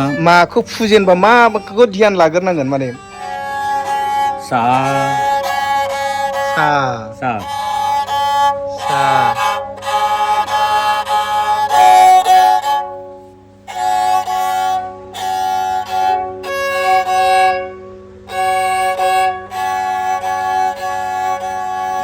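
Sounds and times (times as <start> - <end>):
bowed string instrument notes: 0.0 - 22.0.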